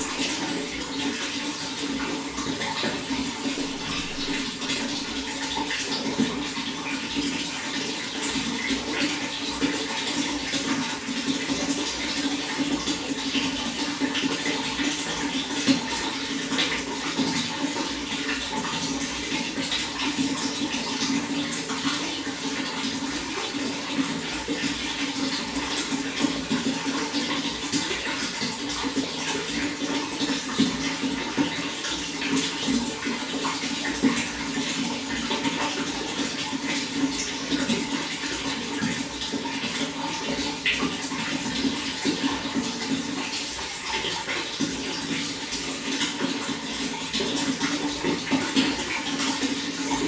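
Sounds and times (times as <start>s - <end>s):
running water: 0.0s - 50.0s.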